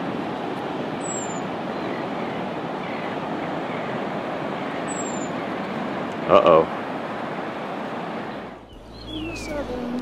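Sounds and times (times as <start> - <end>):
ocean surf: 0.0 - 10.0
wind: 0.0 - 10.0.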